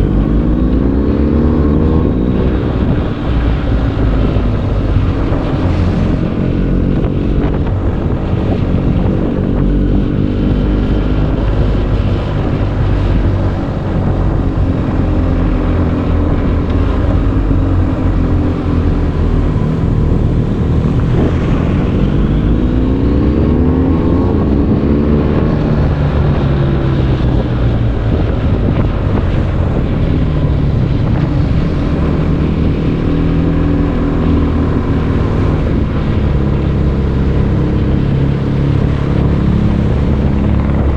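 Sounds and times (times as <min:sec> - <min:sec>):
motorcycle engine accelerating: 0:00.0 - 0:40.9
wind noise on microphone: 0:00.0 - 0:40.9.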